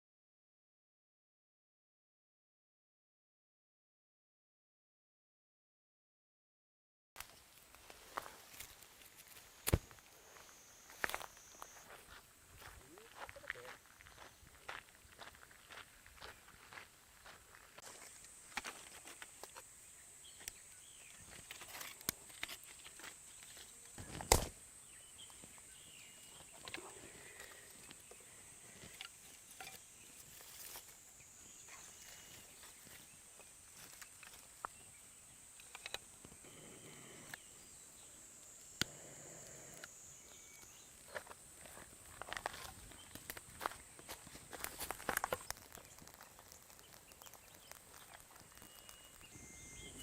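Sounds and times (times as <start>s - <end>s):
steady high hiss: 7.2s - 14.3s, 16.8s - 50.0s.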